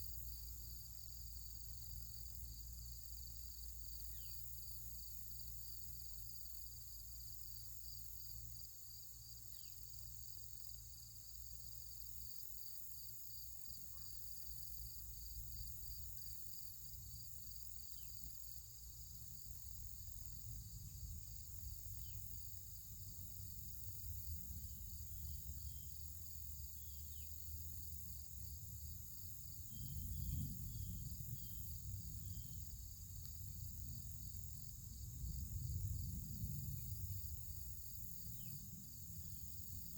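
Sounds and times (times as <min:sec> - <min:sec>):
crickets chirping: 0:00.0 - 0:39.9
high insect hiss: 0:00.0 - 0:39.9.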